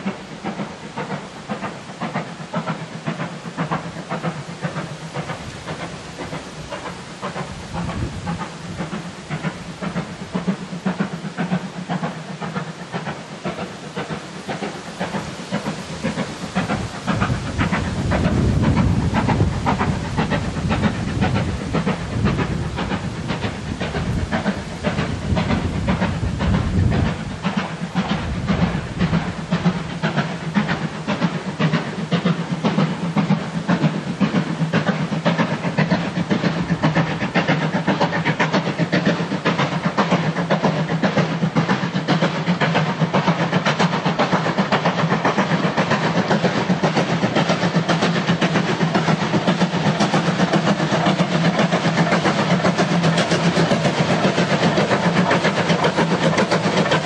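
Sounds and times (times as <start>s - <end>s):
hiss of steam: 0.0s - 57.0s
steam locomotive exhaust beating: 0.0s - 57.0s.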